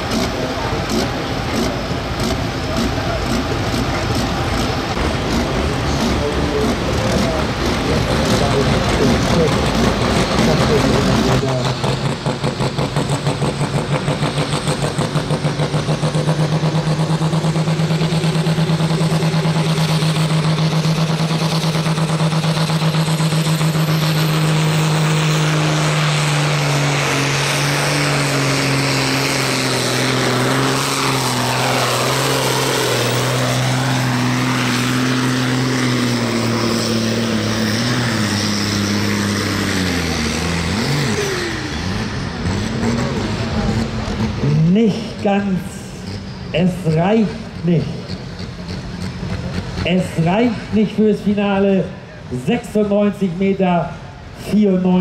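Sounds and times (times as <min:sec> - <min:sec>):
tractor diesel engine labouring: 0:00.0 - 0:55.0.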